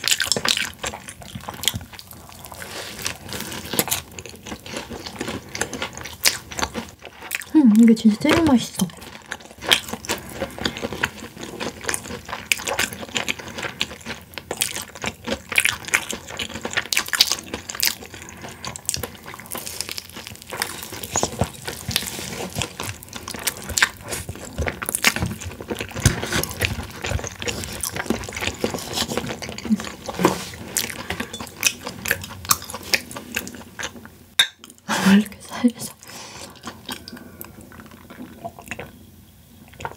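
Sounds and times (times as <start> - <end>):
chewing crunches: 0.0 - 7.6, 8.3 - 34.8.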